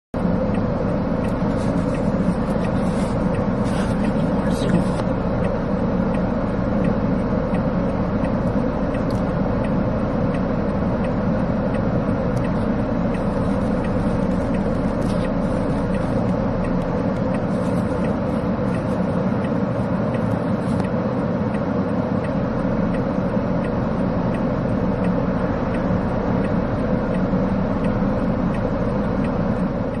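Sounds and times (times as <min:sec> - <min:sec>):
vehicle running hum and drone: 0:00.1 - 0:30.0.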